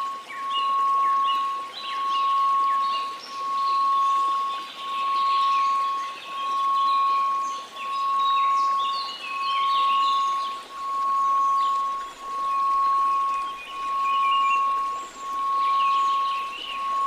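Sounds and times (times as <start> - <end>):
birdsong chirping: 0.0 - 17.0
pulsing pure tone: 0.0 - 17.0
white noise hiss: 0.0 - 17.0.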